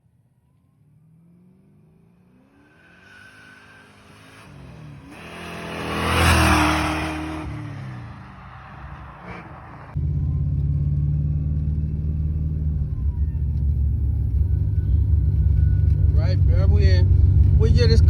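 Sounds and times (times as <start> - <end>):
car engine accelerating hard: 0.8 - 18.0.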